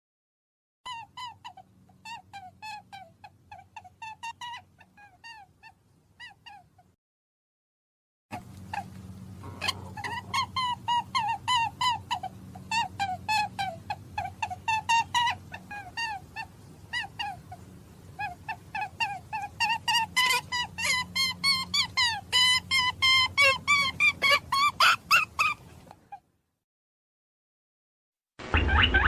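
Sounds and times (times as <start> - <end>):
rabbit squeaking: 0.9 - 6.9, 8.3 - 26.2.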